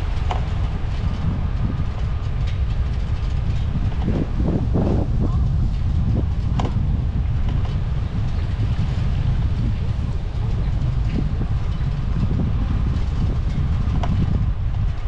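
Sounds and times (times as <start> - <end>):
faint bicycle clicks: 0.0 - 15.0
wind buffeting microphone: 0.0 - 15.0.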